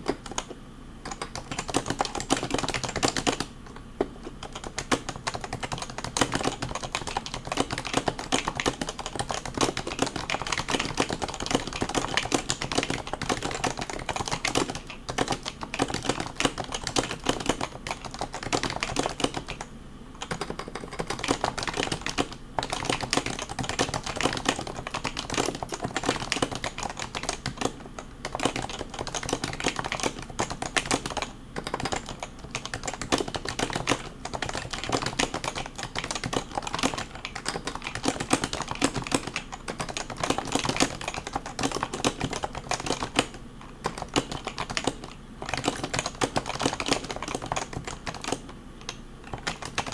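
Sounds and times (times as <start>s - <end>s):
fast keyboard typing: 0.0s - 49.9s.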